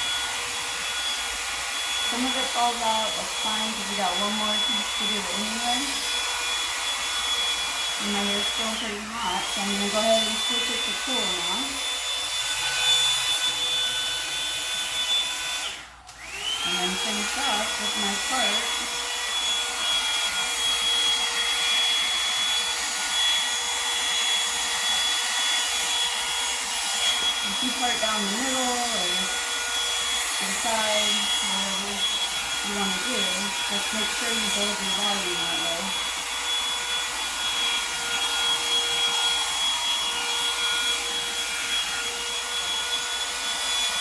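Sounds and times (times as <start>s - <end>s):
hair dryer blowing air: 0.0s - 44.0s.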